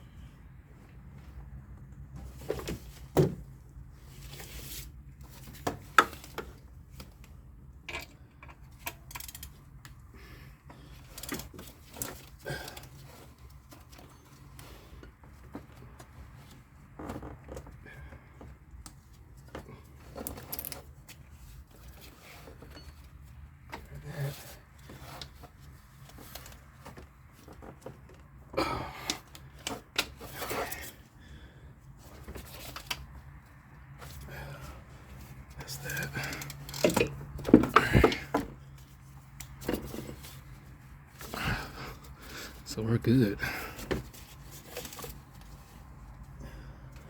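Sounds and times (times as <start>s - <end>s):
rustling of handling: 0.0s - 46.4s.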